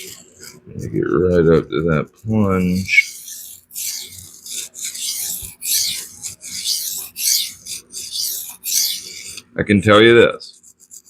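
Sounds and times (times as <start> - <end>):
knife rasping on sharpening stone: 0.0 - 0.6, 1.4 - 9.5, 10.5 - 11.0.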